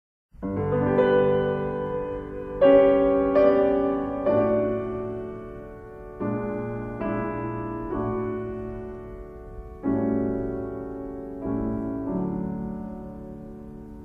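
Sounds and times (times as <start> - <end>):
sustained piano chords: 0.4 - 14.0.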